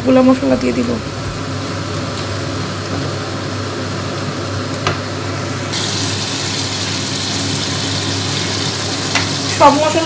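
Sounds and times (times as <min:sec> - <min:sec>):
onions sizzling in a frying pan: 0:00.1 - 0:10.0.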